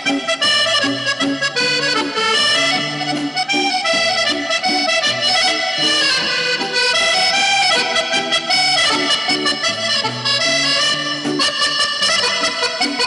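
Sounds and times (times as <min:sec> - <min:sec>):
accordion playing a tune: 0:00.0 - 0:13.0
bass guitar: 0:00.0 - 0:13.0
drums: 0:00.0 - 0:13.0
electric guitar: 0:00.0 - 0:13.0.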